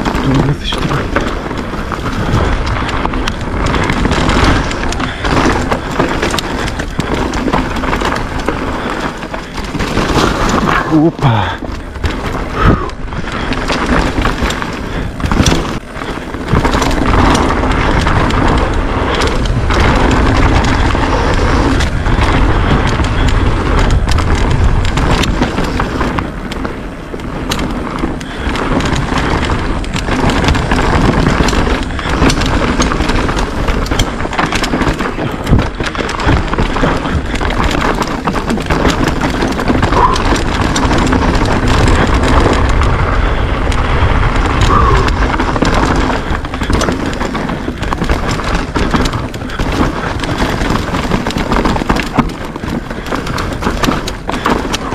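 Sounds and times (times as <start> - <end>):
bike knocking and rattling: 0.0 - 54.9
tyres on dirt and rock: 0.0 - 54.9
wind rushing over microphone: 0.0 - 54.9.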